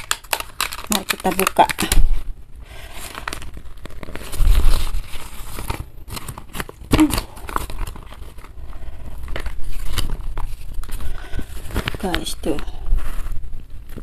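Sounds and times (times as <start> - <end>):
paper wrapper crinkling: 0.0 - 14.0.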